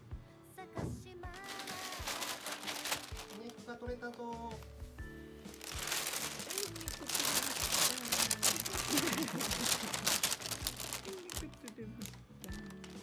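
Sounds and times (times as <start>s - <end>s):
plastic bag rustling and crinkling: 1.3s - 13.0s.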